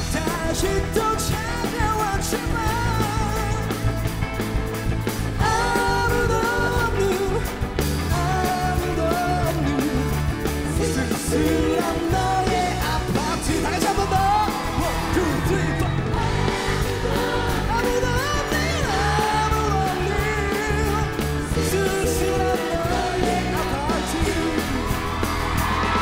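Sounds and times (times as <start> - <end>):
lead singer vocals: 0.0 - 4.0, 5.1 - 26.0
live pop-rock band: 0.0 - 26.0
steady drum beat: 0.0 - 26.0.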